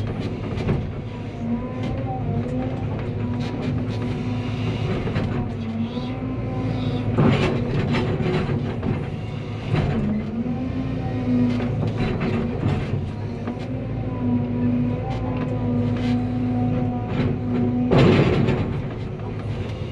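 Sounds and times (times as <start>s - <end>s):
machine knocks and clanks: 0.0s - 5.8s, 7.0s - 10.5s, 11.5s - 13.9s, 15.1s - 19.9s
excavator diesel engine running: 0.0s - 19.9s.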